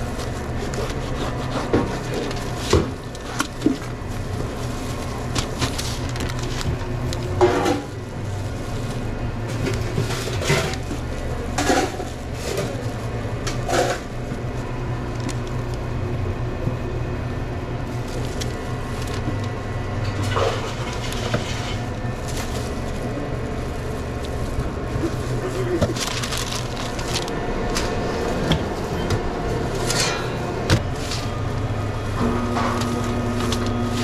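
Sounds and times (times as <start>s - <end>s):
low machine hum: 0.0s - 34.0s
clatters and rustles: 0.1s - 14.3s, 17.9s - 31.7s.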